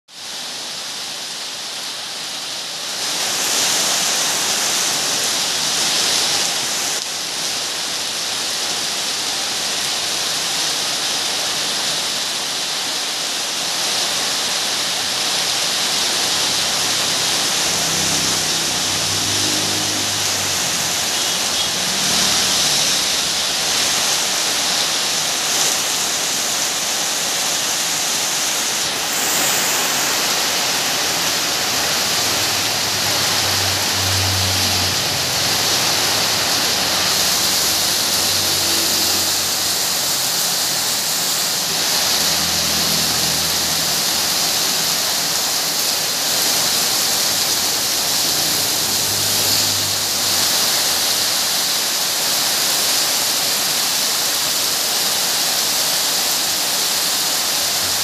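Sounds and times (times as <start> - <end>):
heavy rain on road: 0.1 - 58.0.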